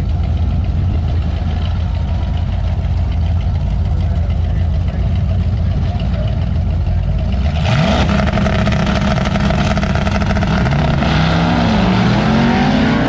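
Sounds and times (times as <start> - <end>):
car engine rumbling and accelerating: 0.0 - 13.0.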